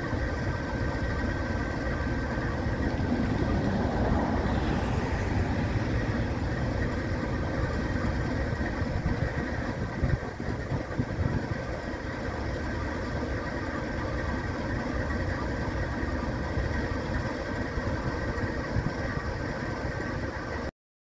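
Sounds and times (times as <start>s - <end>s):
locomotive diesel engine idling: 0.0s - 20.7s.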